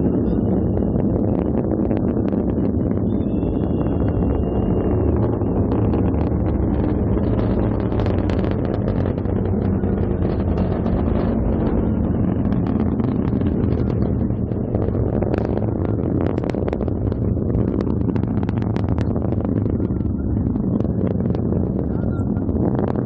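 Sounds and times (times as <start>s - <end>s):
rocket roaring: 0.0s - 23.0s.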